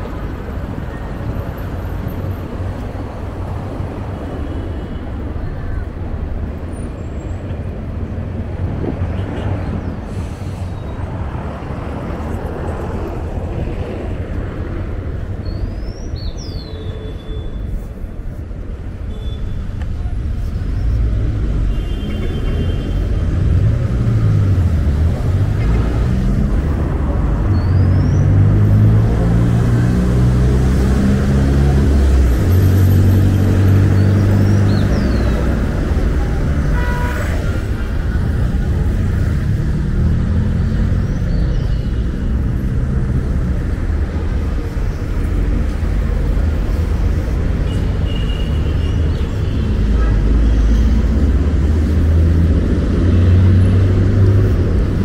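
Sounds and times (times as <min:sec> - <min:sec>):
heavy engines pulling by: 0:00.0 - 0:16.0, 0:19.6 - 0:55.0
passing vehicles rumbling: 0:00.0 - 0:55.0.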